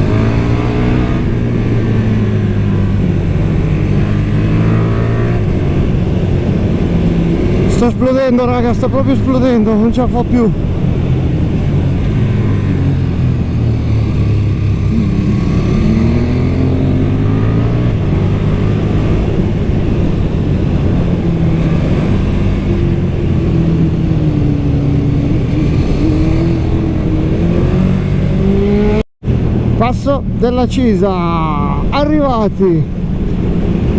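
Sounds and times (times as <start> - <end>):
motorcycle engine revving: 0.0 - 29.5.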